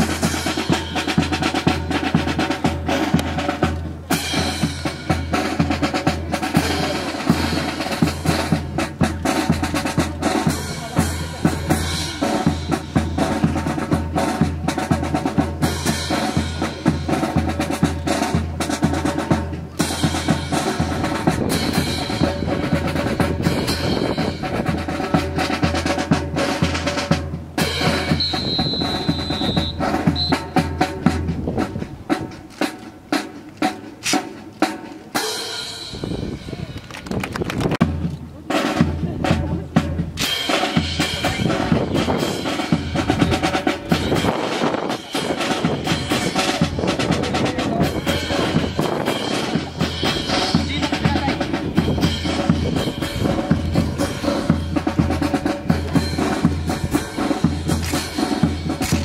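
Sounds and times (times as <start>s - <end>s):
snare and bass drum cadence: 0.0s - 59.0s.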